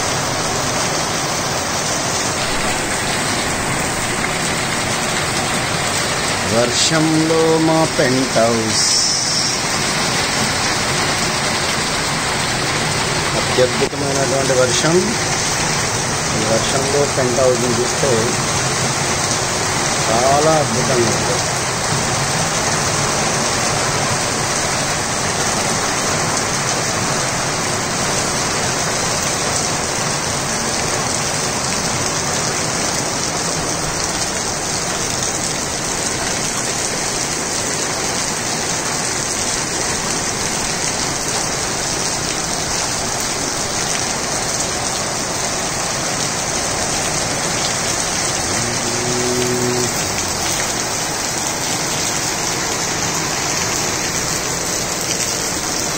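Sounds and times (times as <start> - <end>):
rain on concrete: 0.0 - 55.9.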